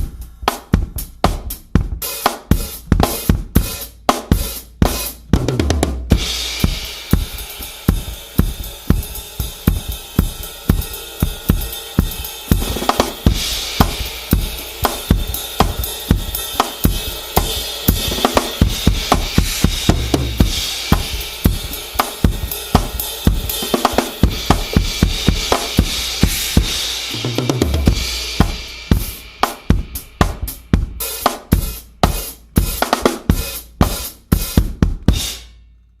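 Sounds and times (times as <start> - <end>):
drum kit solo: 0.0 - 35.6.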